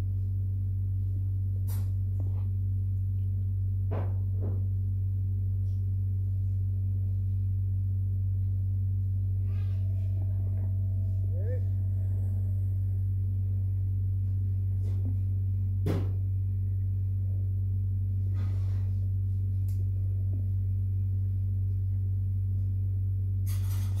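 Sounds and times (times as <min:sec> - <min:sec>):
loud low hum: 0:00.0 - 0:24.0.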